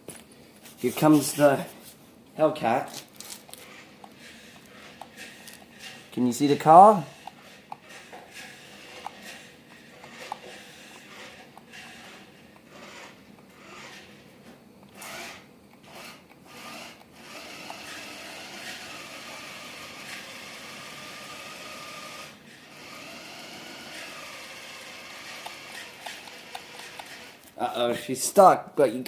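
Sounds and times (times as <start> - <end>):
toy car electric motor whining: 2.9 - 14.3, 14.9 - 27.7.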